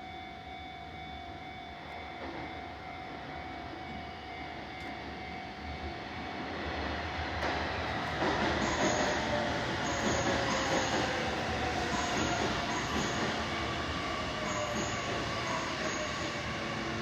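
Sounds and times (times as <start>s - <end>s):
electric train whine and rumble: 0.0s - 17.0s.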